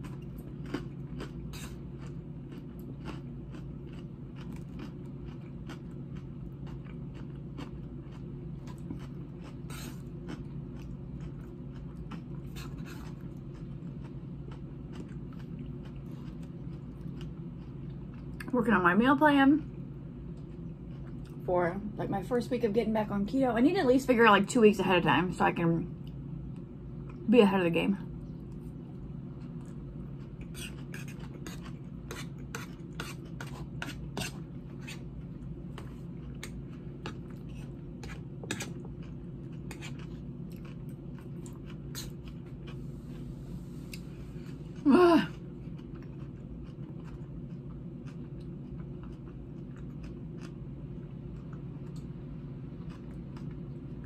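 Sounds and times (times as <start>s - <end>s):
chewing crunchy salad: 0.0s - 18.6s, 19.6s - 21.5s, 28.2s - 54.0s
low hum: 0.0s - 54.0s.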